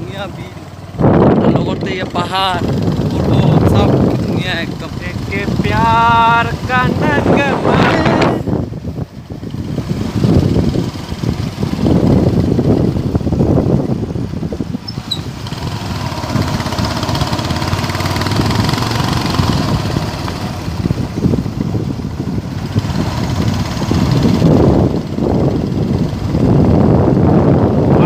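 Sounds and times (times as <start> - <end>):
vehicle engine and road noise: 0.0 - 28.0.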